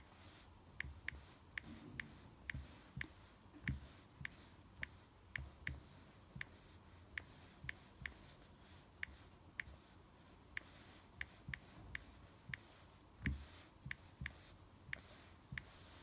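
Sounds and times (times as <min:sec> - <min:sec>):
fingertip tapping screen: 0:00.0 - 0:16.0.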